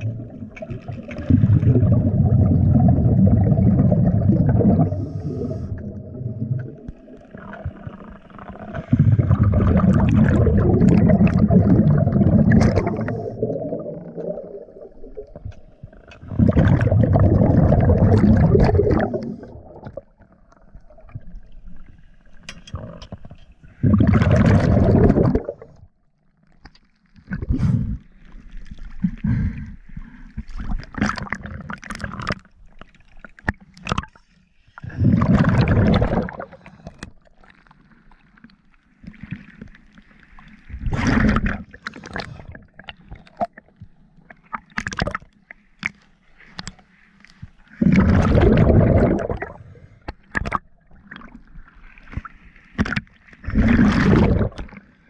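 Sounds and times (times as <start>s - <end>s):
sea water sloshing and gurgling: 0.0s - 55.0s.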